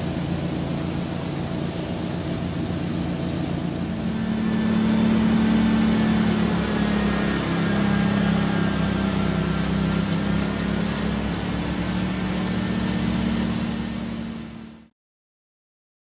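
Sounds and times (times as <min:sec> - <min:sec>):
engine humming: 0:00.0 - 0:14.9
hiss: 0:00.0 - 0:14.9.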